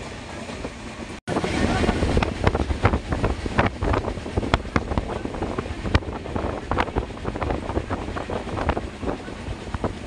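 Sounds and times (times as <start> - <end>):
train running noise: 0.0 - 10.0
wind rushing over microphone: 1.3 - 10.0.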